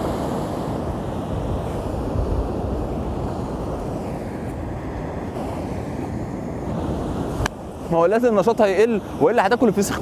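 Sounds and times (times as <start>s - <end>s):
sea waves breaking on shore: 0.0s - 10.0s
wind buffeting microphone: 0.0s - 10.0s.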